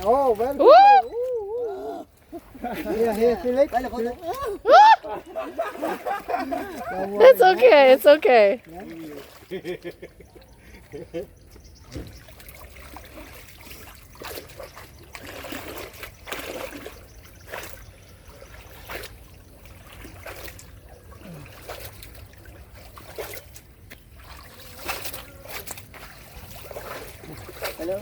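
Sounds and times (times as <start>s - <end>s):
shallow water splashing: 0.0s - 28.0s.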